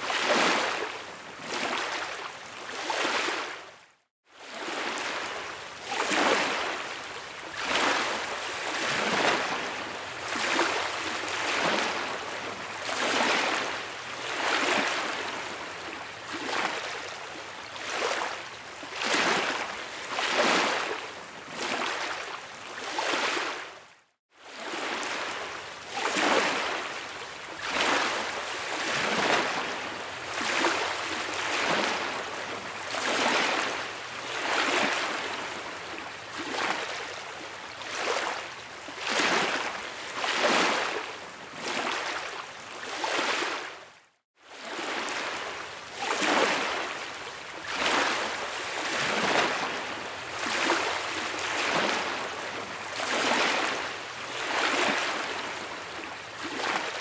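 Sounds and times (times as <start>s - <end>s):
waves lapping against rocks: 0.0s - 3.6s, 4.4s - 23.7s, 24.5s - 43.7s, 44.5s - 57.0s.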